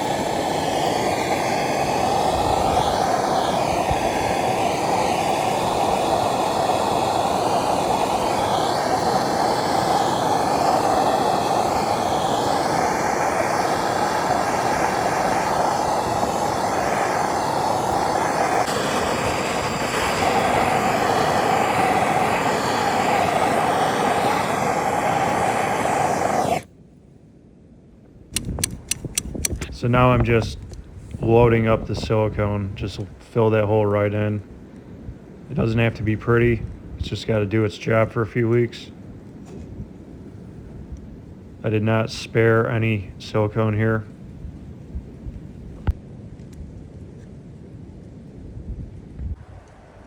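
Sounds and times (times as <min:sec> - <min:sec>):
gas torch flame roaring: 0:00.0 - 0:26.7, 0:28.3 - 0:46.0.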